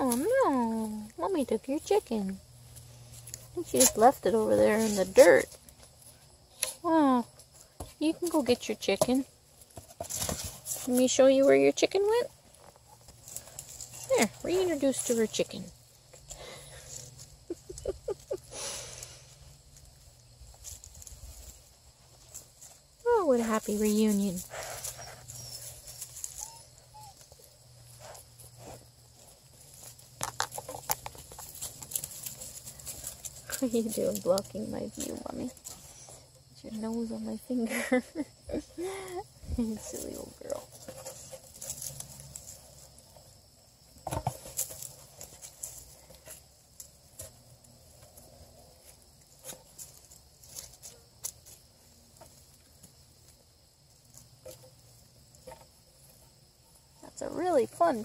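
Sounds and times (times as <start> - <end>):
twigs crackling: 0.0 - 37.4, 38.8 - 56.2
faint rustling of leaves: 0.0 - 58.0.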